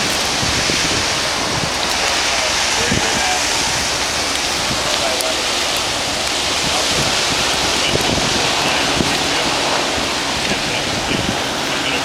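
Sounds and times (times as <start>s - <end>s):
fire crackling and popping: 0.0s - 12.0s
wildfire rushing: 0.0s - 12.0s.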